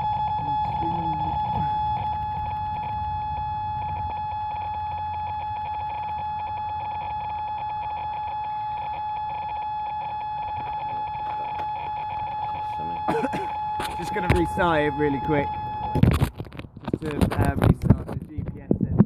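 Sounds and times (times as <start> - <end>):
high continuous buzzer tone: 0.0 - 16.2.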